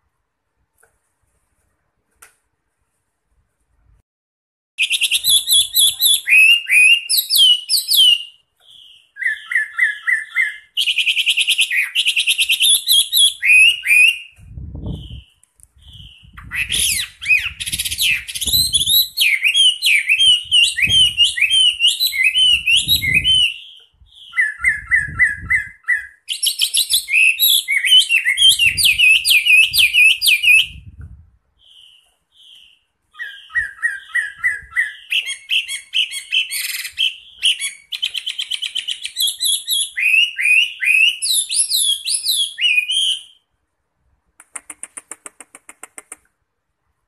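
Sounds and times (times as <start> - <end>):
bird singing varied whistles: 4.8 - 31.0, 31.6 - 43.5.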